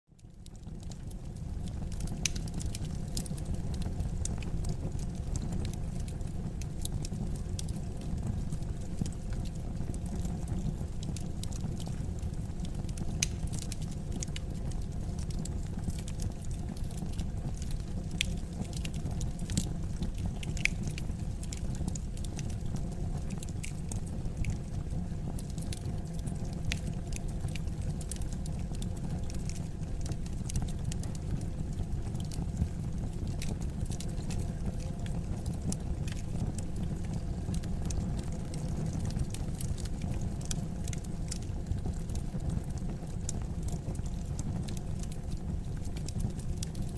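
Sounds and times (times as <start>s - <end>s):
burning logs crackling and popping: 0.2s - 46.9s
fire rumbling in fireplace: 0.2s - 46.9s.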